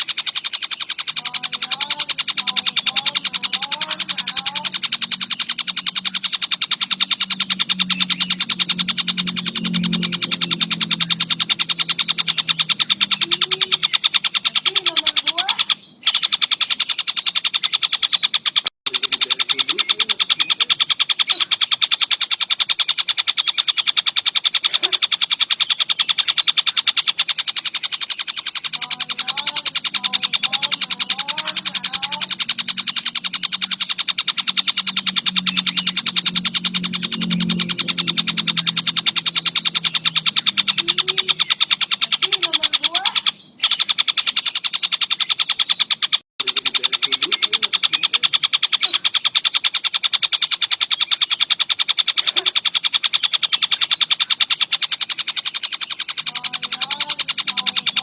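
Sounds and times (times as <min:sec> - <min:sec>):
kingfisher chattering: 0:00.0 - 0:58.0.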